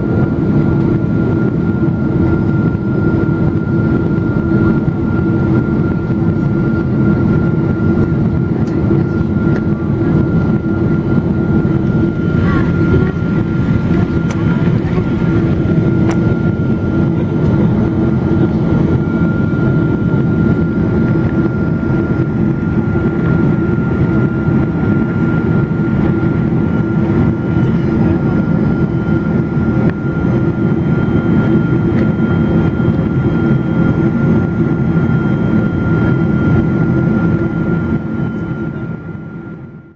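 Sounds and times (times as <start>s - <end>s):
deep rumble of jet engines: 0.0s - 39.9s
thin steady whine: 0.0s - 39.9s.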